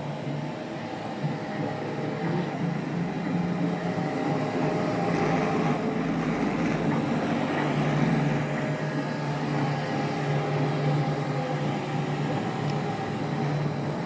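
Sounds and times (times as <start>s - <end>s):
robot vacuum humming: 0.0s - 14.0s.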